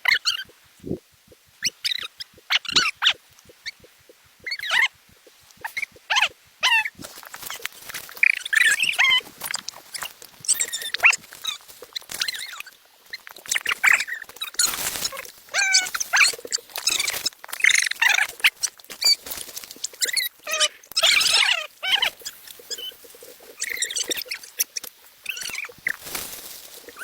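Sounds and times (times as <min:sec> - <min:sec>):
small animal squeaking: 0:01.6 - 0:27.0
rustling: 0:04.4 - 0:27.0.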